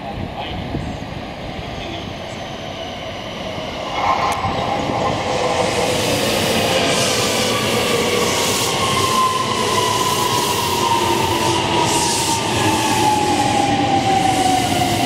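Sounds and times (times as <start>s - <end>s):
high train whine: 0.0s - 15.0s
train wheels on rails: 0.4s - 15.0s.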